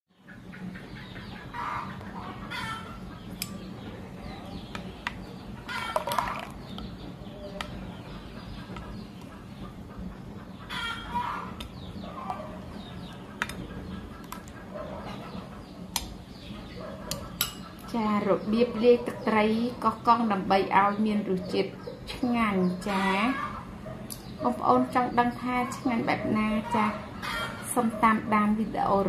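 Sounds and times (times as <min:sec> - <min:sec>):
chickens clucking: 0:00.2 - 0:29.0
steady low hum: 0:00.2 - 0:29.0.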